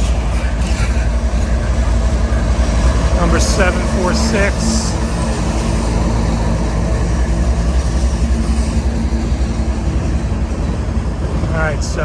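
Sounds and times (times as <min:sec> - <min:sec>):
locomotive engine running: 0:00.0 - 0:12.0.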